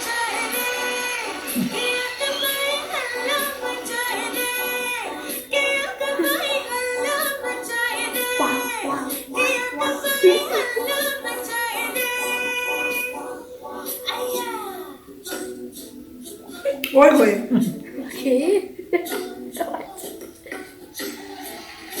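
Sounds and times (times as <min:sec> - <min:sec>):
several voices singing: 0:00.0 - 0:22.0.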